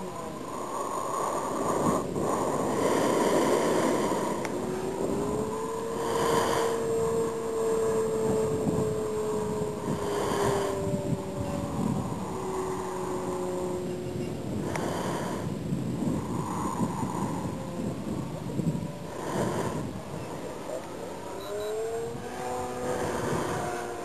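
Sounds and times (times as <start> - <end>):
model airplane engine droning: 0.0 - 24.0
wind noise on microphone: 0.0 - 24.0.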